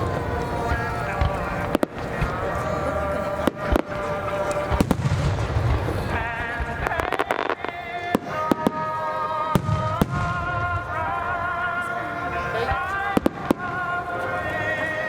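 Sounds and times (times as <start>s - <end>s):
fireworks bursting: 0.0s - 11.6s, 12.6s - 15.0s
music with long held notes: 0.0s - 15.0s.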